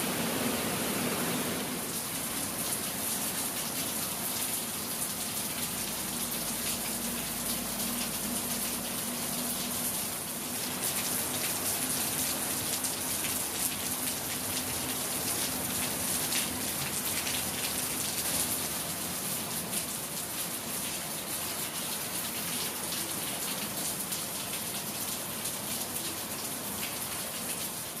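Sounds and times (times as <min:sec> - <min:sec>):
heavy rain on grass: 0:00.0 - 0:28.0.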